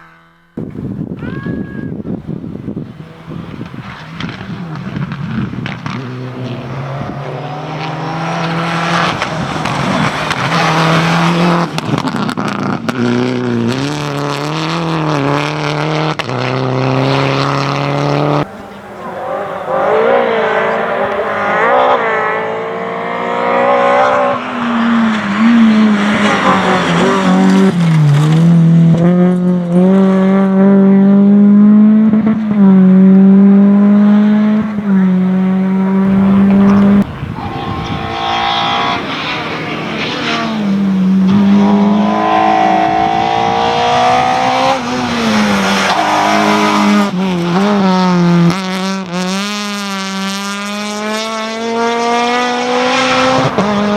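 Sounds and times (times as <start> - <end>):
rally car engine revving: 1.9 - 53.9.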